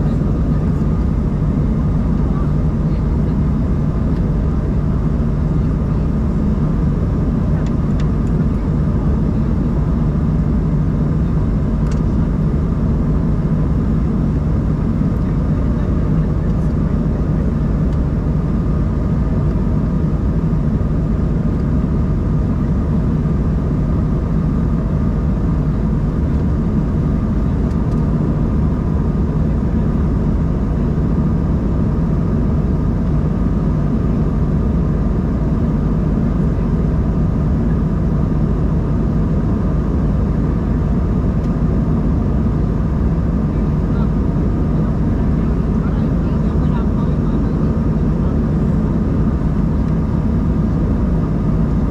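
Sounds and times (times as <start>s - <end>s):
jet engine drone: 0.0s - 51.9s.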